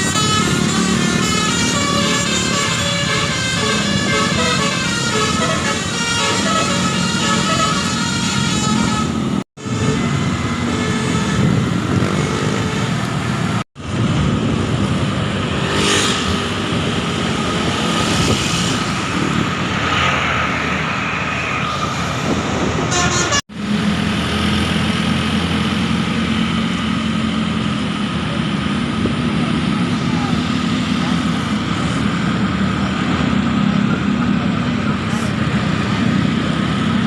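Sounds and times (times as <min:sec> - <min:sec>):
road traffic: 0:00.0 - 0:37.0.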